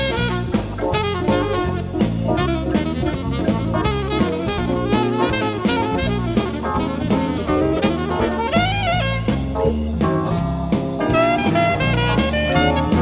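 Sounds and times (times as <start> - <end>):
alto saxophone melody: 0.0 - 9.8, 11.0 - 13.0
jazz-funk band playing: 0.0 - 13.0.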